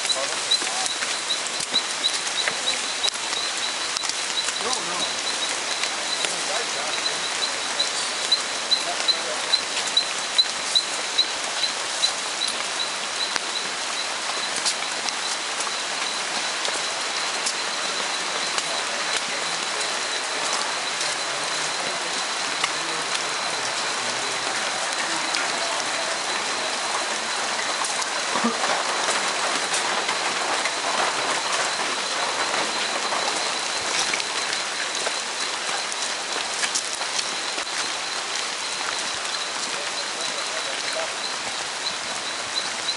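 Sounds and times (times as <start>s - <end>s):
footsteps on wet trail: 0.0s - 42.9s
rain hissing in forest: 0.0s - 42.9s.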